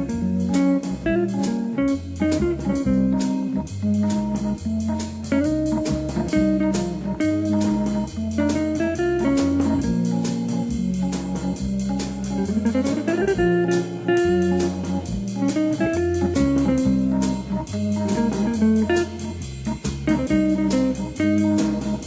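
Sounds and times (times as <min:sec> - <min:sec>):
bass line: 0:00.0 - 0:22.0
guitar: 0:00.0 - 0:22.0
instrumental jazz blues: 0:00.0 - 0:22.0
organ: 0:00.0 - 0:22.0.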